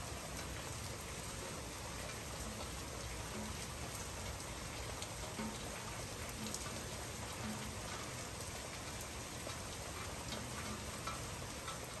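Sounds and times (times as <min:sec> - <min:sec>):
raindrops ticking: 0:00.0 - 0:12.0.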